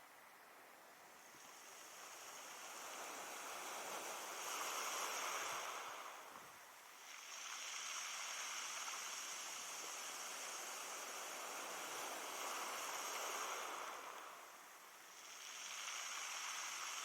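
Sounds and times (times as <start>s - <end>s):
faint surf on a beach: 0.0s - 17.0s.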